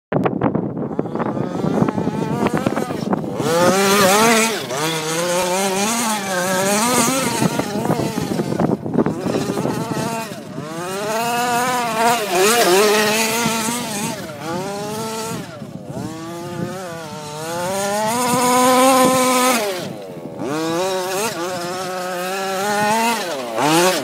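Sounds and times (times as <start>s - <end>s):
two-stroke engine revving: 0.8s - 24.0s.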